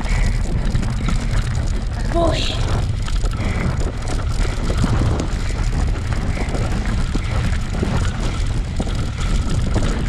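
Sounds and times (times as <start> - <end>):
bicycle rolling over dirt: 0.0 - 10.0
small rattles: 0.0 - 10.0
wind on microphone: 0.0 - 10.0.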